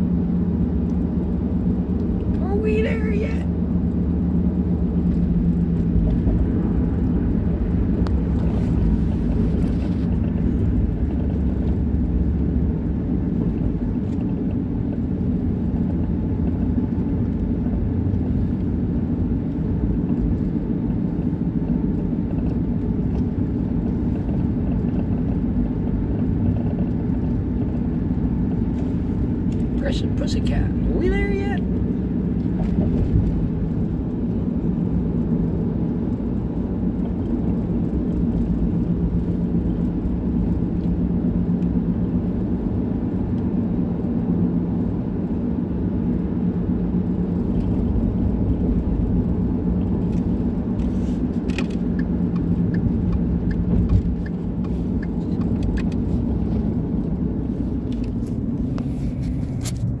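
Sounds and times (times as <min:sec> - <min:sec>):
car interior road rumble: 0:00.0 - 1:00.0.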